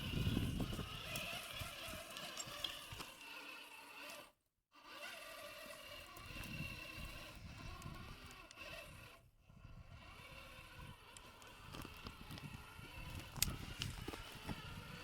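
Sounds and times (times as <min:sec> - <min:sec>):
electric motor and gears whining: 0:00.0 - 0:15.0
toy truck rumbling over ground: 0:00.0 - 0:15.0.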